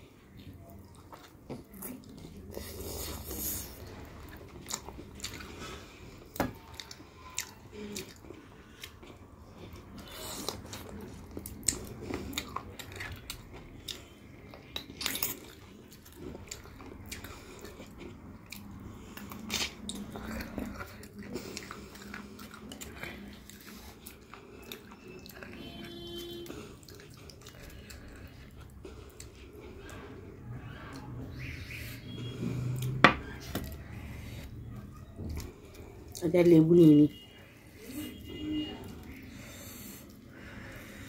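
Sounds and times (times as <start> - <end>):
person chewing food: 0.0 - 36.5, 37.2 - 41.0.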